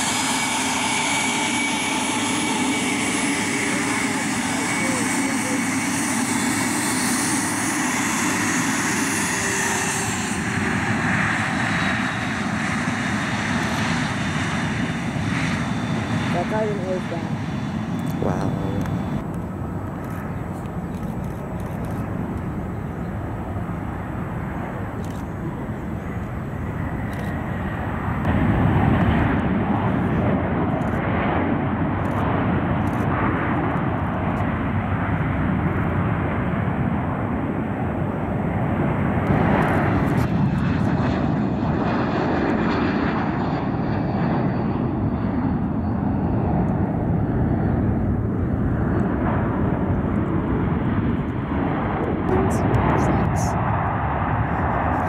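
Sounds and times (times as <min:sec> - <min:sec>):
high jet engine whine: 0:00.0 - 0:55.0
jet engine roar: 0:00.0 - 0:55.0.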